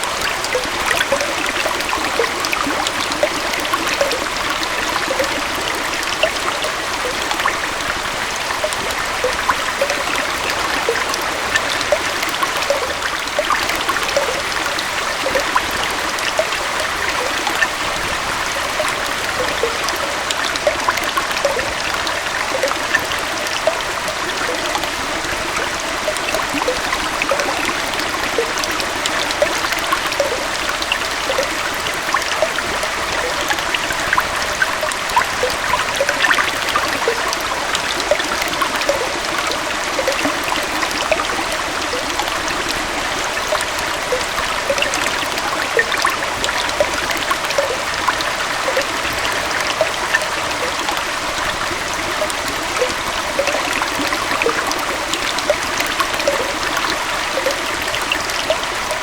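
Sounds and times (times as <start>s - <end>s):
waterfall and stream flowing: 0.0s - 59.0s.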